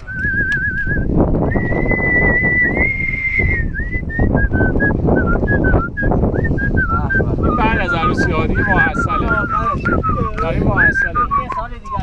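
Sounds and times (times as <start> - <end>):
low rumbling noise: 0.0 - 11.1
person whistling a tune: 0.0 - 12.0.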